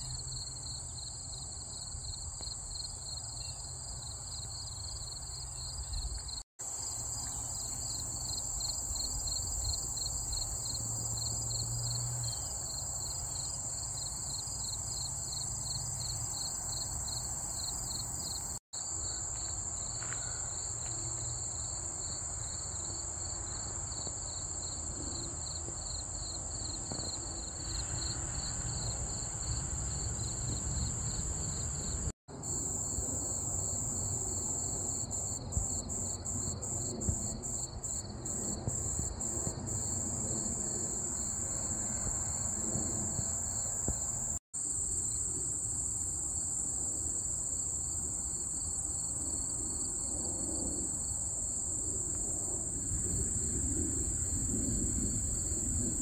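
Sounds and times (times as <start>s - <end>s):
insect chirping pulse: 0.0s - 23.7s, 24.3s - 45.5s
high-pitched insect trill: 0.0s - 51.6s.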